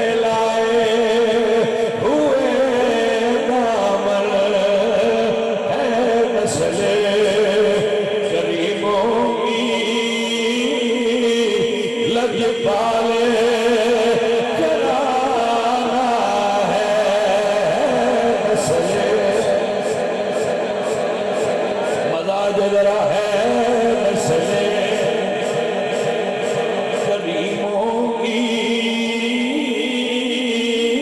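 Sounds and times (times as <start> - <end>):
man chanting into a microphone: 0.0 - 31.0.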